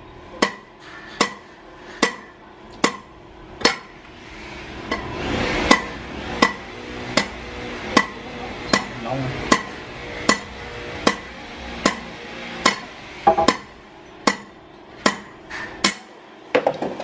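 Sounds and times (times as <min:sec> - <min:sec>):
hammer striking metal rod: 0:00.4 - 0:04.0, 0:04.9 - 0:16.2.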